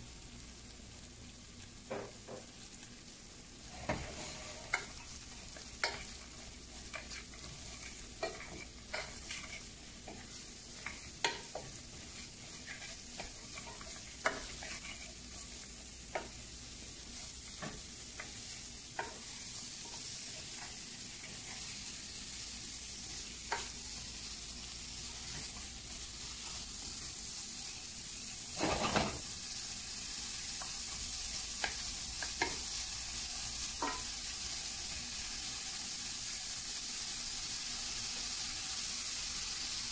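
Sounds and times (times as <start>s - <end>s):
vegetables sizzling in butter: 0.0s - 39.9s.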